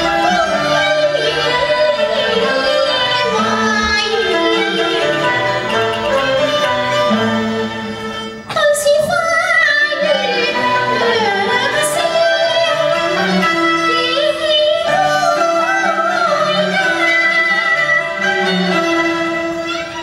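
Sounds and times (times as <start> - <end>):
bowed string accompaniment: 0.0 - 20.0
woman singing ornamented melody: 0.0 - 20.0.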